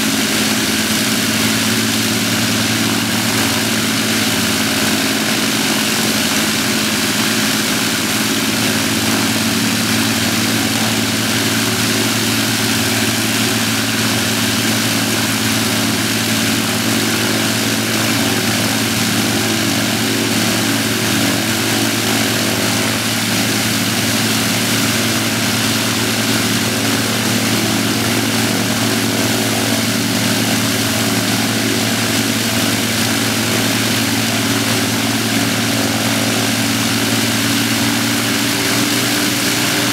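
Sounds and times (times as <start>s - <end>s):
aircraft propeller engines droning: 0.0s - 39.9s.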